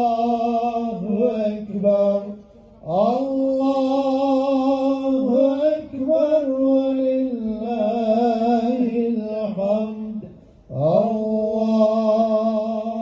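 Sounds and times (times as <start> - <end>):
man chanting religious recitation: 0.0 - 13.0.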